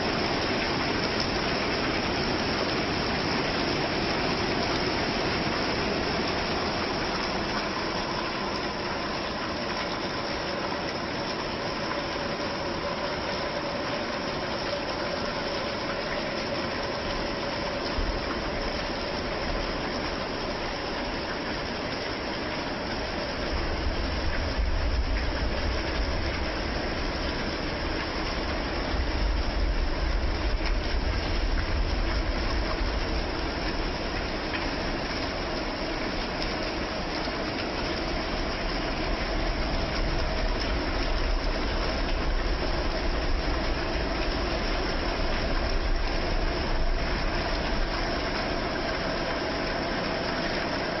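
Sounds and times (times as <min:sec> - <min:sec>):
heavy rain hissing: 0:00.0 - 0:51.0.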